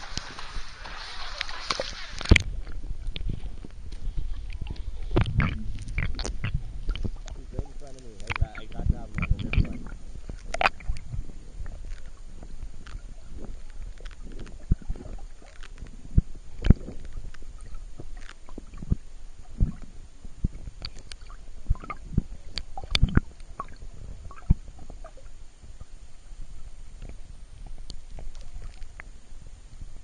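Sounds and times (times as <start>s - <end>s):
muffled underwater rumble: 0.0s - 30.0s.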